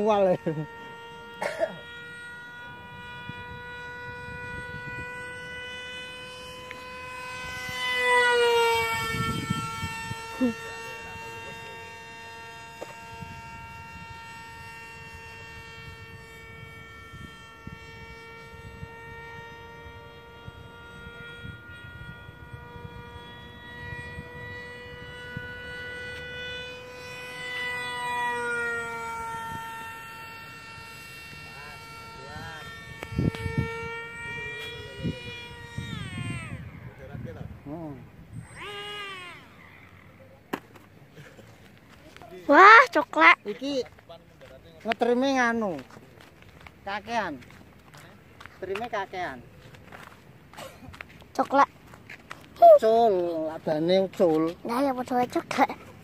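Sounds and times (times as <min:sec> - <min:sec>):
model plane motor whine: 0:00.0 - 0:56.0.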